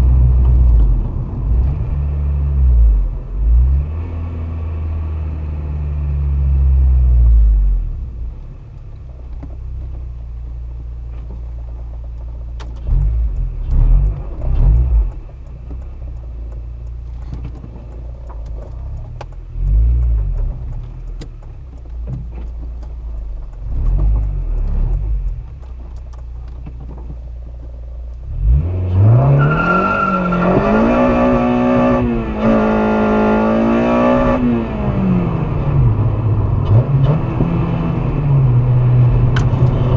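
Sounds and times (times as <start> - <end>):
car engine rumbling and revving: 0.0 - 39.9.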